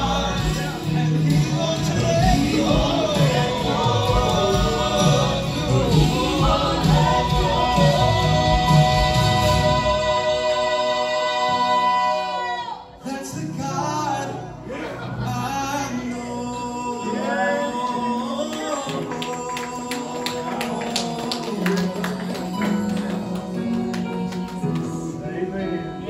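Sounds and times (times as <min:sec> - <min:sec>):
musical accompaniment: 0:00.0 - 0:26.0
vocal group singing in harmony: 0:00.0 - 0:26.0.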